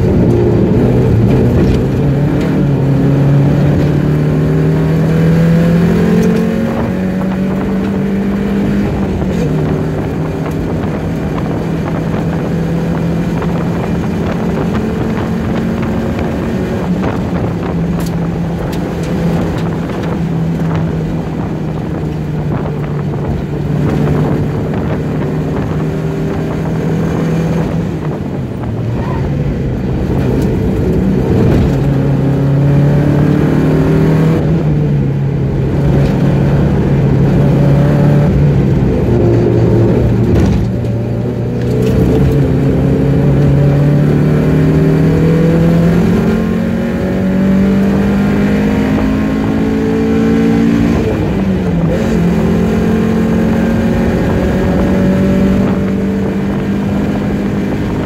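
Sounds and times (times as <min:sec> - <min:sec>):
car engine at high revs: 0:00.0 - 0:58.0
wind noise: 0:00.0 - 0:58.0.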